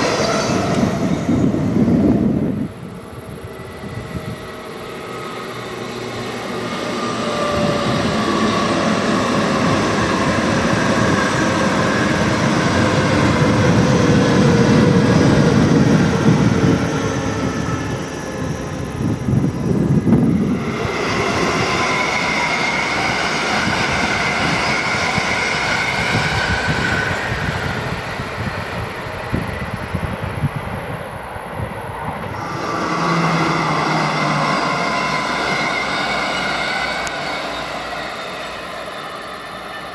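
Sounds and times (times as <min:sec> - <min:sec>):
train passing with whining tones: 0:00.0 - 0:39.9.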